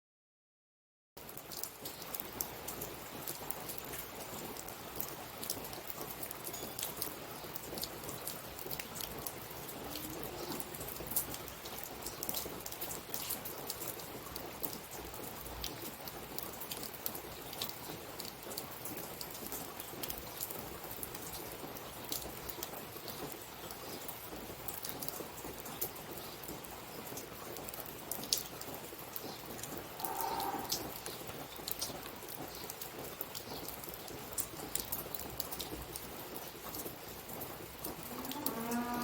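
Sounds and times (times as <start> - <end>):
rain patter: 1.2 - 39.0.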